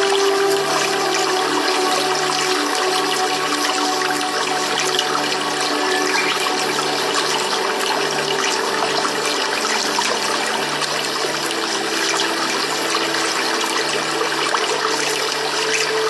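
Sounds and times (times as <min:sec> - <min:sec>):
faint sustained music tones: 0:00.0 - 0:16.0
running water rushing: 0:00.0 - 0:16.0.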